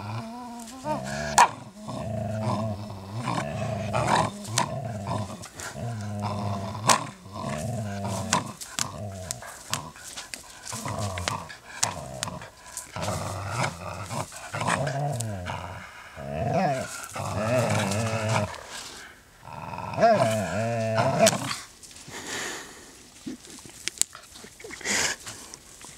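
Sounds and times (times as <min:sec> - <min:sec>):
dog growling: 0:00.0 - 0:21.7.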